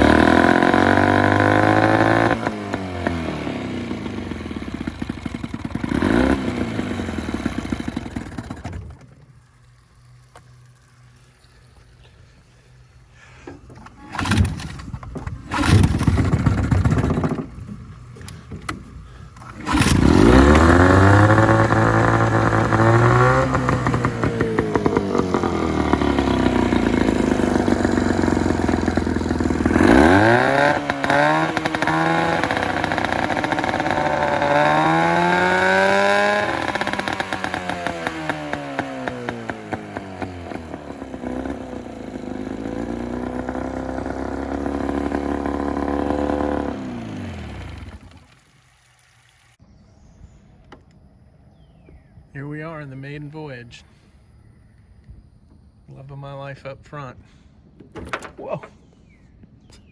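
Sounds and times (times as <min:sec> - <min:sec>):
outboard motor cranking: 0:00.0 - 0:49.6
outboard motor running: 0:00.0 - 0:49.6.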